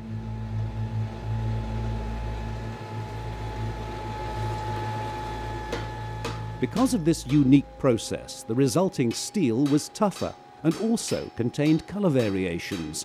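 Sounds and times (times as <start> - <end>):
forge air blower: 0.0 - 13.0.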